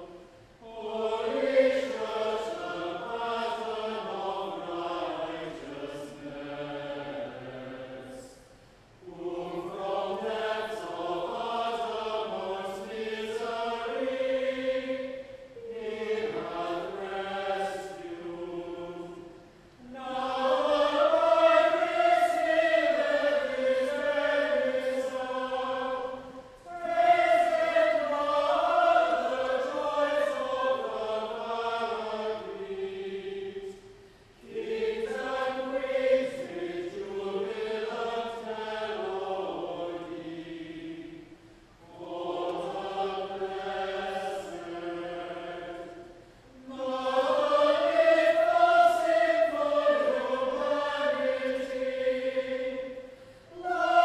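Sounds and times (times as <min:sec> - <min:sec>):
choir singing plainchant: 0:00.0 - 0:54.0.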